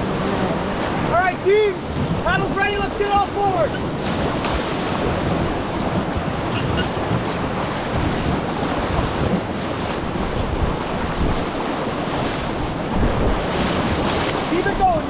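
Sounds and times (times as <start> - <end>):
whitewater rushing: 0.0 - 15.0
wind buffeting microphone: 0.0 - 15.0.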